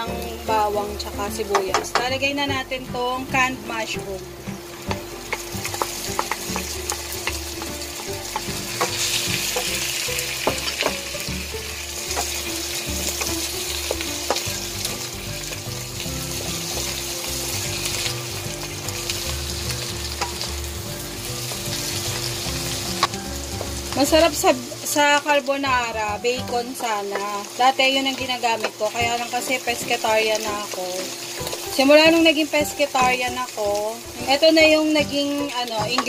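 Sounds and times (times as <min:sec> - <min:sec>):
mushrooms sizzling in a pan: 0:00.0 - 0:36.0.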